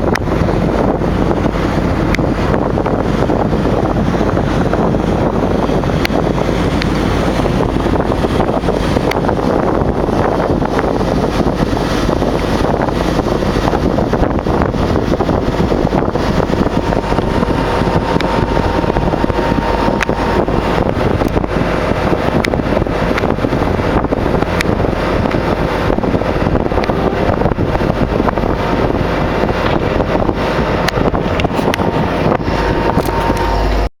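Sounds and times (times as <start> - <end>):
motorboat engine drone: 0.0 - 33.9
water rushing past: 0.0 - 33.9
wind buffeting microphone: 0.0 - 33.9.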